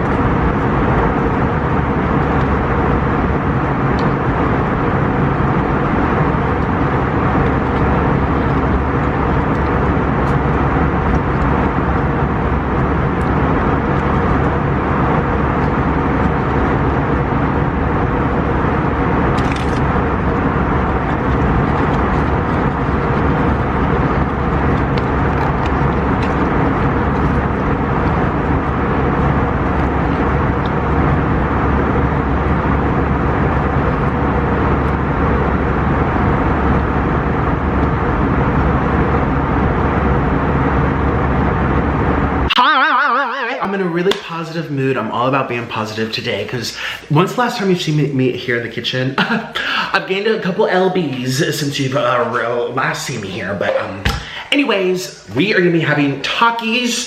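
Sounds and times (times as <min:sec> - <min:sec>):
low hum: 0:00.0 - 0:47.0
loud steady rumbling: 0:00.0 - 0:57.0.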